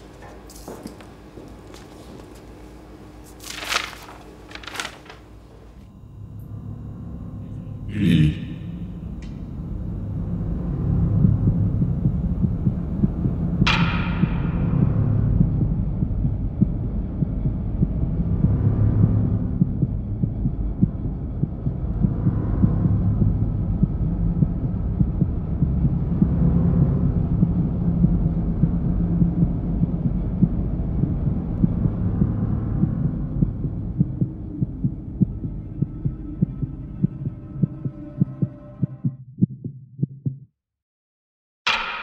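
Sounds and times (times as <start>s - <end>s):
low throbbing drone: 5.8s - 39.6s.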